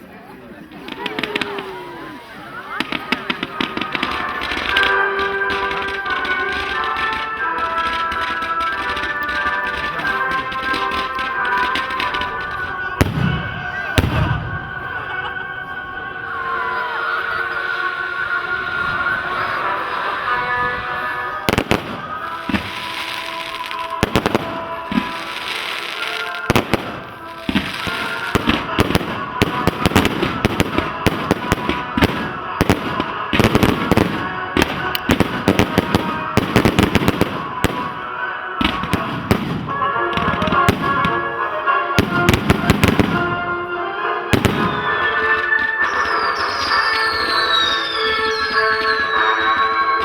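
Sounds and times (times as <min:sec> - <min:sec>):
fireworks bangs and crackles: 0:00.0 - 0:16.6, 0:18.2 - 0:50.0
music playing: 0:00.8 - 0:50.0.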